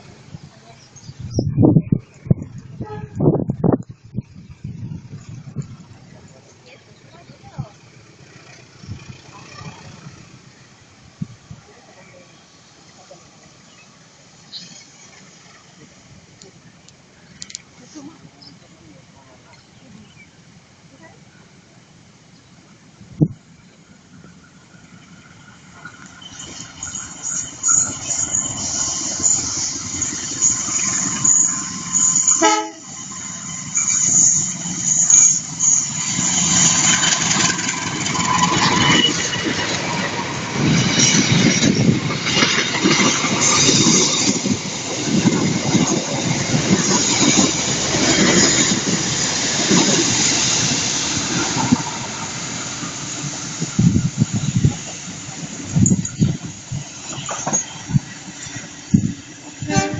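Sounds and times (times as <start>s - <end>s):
train rumbling past on rails: 0.0s - 59.9s.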